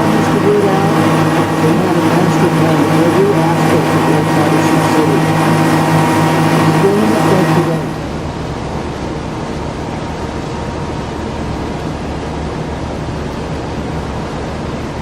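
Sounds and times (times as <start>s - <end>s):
boat engine humming: 0.0s - 15.0s
rush of water and wind: 0.0s - 15.0s.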